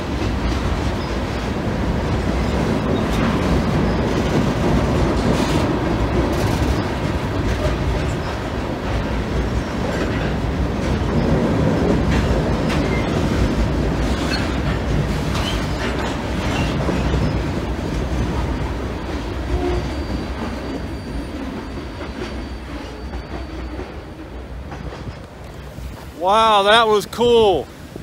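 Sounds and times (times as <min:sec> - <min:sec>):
clacks at rail joints: 0:00.0 - 0:25.7
train wheels rumbling on bridge: 0:00.0 - 0:26.9.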